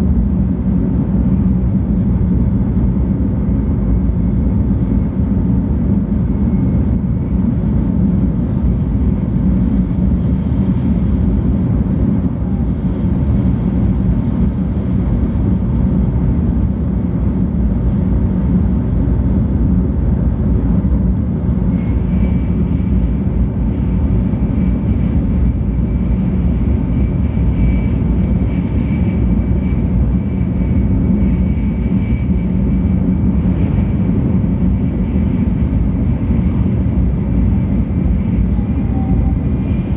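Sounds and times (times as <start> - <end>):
train wheels and air rumble: 0.0 - 39.9.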